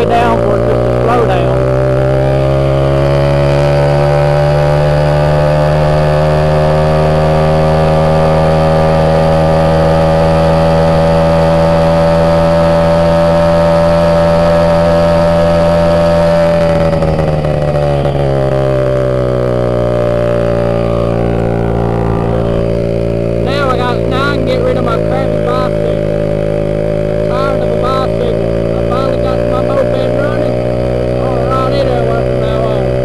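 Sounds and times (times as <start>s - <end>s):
moped engine running: 0.0s - 33.0s.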